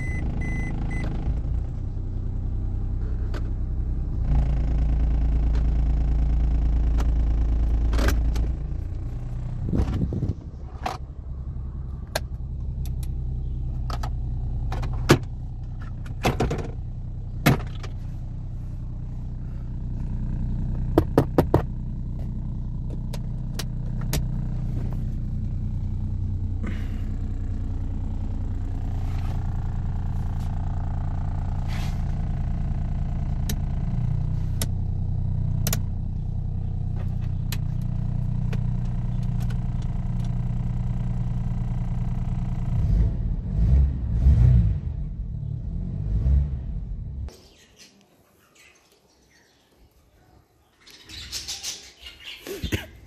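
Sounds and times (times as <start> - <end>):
car engine idling: 0.0 - 47.5.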